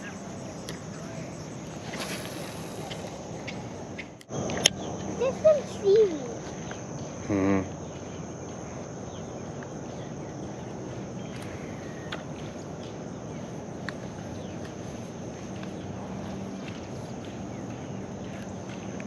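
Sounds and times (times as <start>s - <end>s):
background hiss: 0.0s - 18.8s
high-pitched insect chorus: 0.0s - 19.0s.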